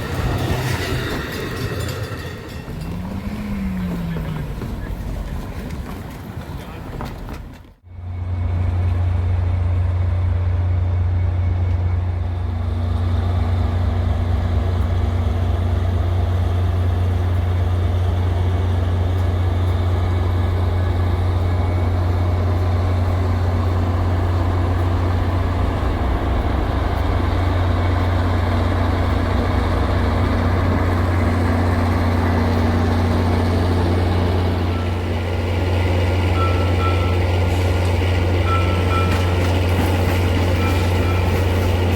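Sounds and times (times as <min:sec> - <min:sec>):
heavy engine droning: 0:00.0 - 0:41.9.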